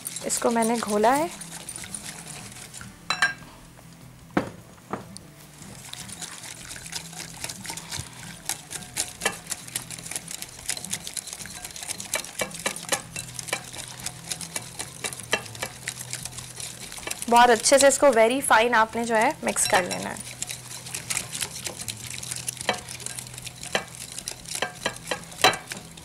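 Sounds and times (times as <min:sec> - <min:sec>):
wire whisk beating batter in glass bowl: 0:00.0 - 0:03.2, 0:05.7 - 0:26.0.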